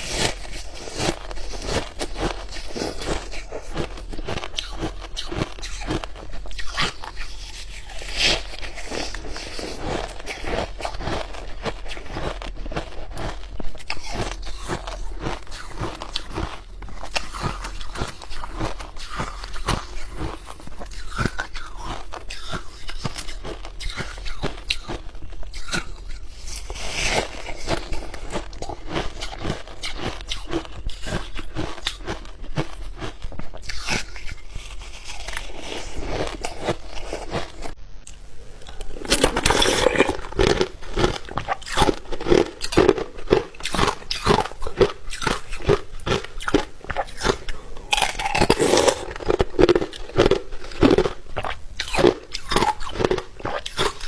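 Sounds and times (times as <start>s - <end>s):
ice being chewed: 0.0s - 37.8s, 38.6s - 54.0s.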